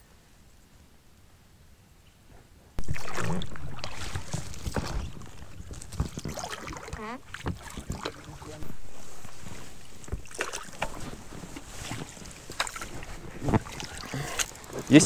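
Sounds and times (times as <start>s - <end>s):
water splashing: 2.8s - 15.0s.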